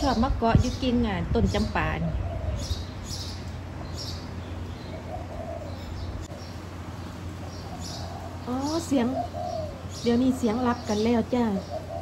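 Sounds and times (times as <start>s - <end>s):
small birds chirping: 0.0s - 12.0s
doves cooing: 1.4s - 12.0s.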